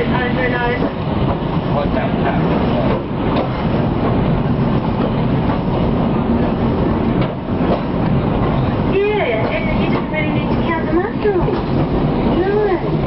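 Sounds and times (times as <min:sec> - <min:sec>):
tram wheels rumbling on track: 0:00.0 - 0:13.0.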